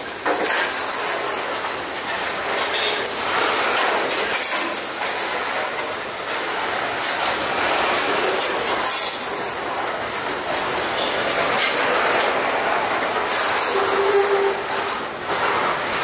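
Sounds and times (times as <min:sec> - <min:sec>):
steel wheels rolling on rails: 0:00.0 - 0:16.0.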